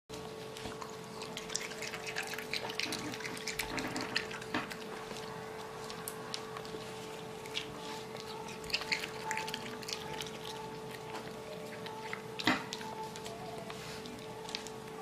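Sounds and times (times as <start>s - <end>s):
faint steady hum: 0.1s - 15.0s
raccoon chewing wetly: 0.2s - 15.0s.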